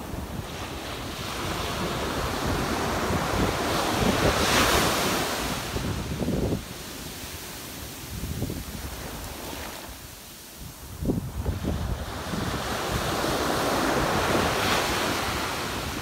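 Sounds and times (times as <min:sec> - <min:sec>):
waves breaking on beach: 0:00.0 - 0:16.0
wind rumble on microphone: 0:00.0 - 0:16.0.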